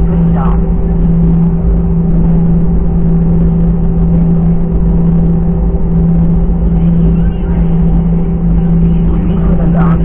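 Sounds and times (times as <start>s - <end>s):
airliner cabin engine drone: 0.0s - 10.0s.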